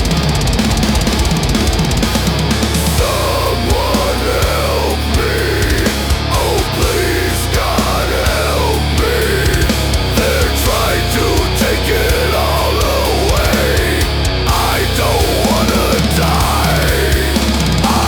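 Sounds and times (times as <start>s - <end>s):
heavy metal band: 0.0s - 18.0s.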